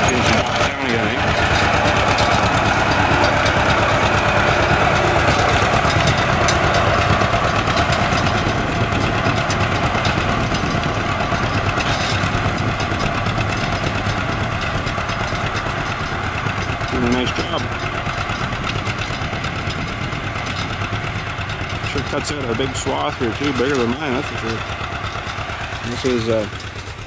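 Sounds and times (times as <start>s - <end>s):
tractor engine chugging: 0.0s - 27.0s.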